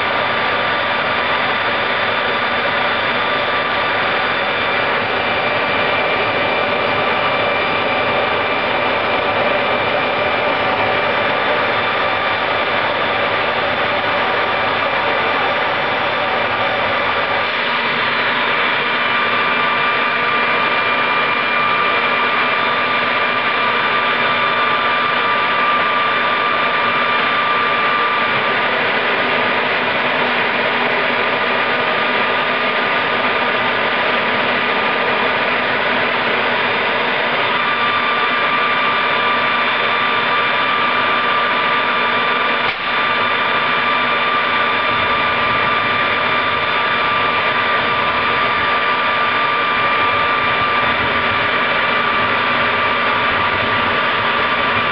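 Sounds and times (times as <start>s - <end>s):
turbojet rushing air and whine: 0.0s - 54.9s.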